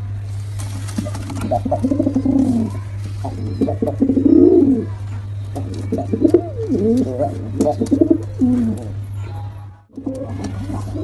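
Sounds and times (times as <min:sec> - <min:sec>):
steady low hum: 0:00.0 - 0:11.0
pigeon cooing: 0:00.9 - 0:11.0.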